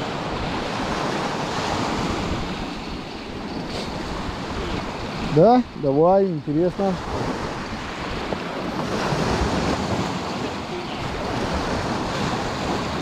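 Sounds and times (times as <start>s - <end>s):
waves washing against shore: 0.0s - 13.0s
wind buffeting microphone: 0.0s - 13.0s.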